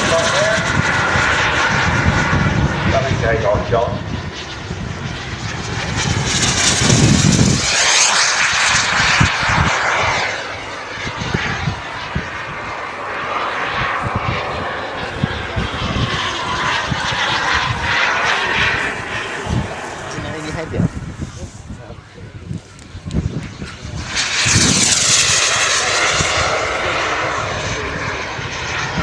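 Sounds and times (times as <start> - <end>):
model jet turbine whining: 0.0 - 29.0.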